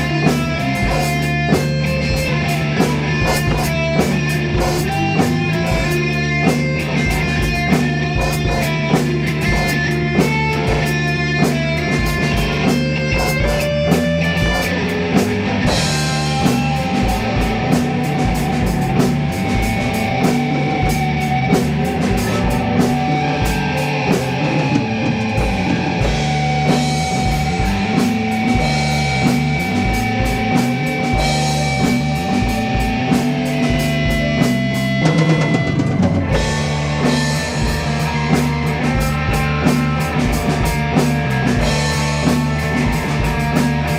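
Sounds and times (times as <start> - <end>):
drum kit beat: 0.0 - 43.9
electric guitar: 0.0 - 43.9.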